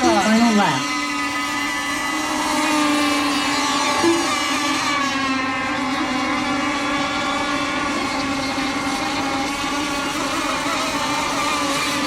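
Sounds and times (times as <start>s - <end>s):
model boat engines whining: 0.0s - 12.0s.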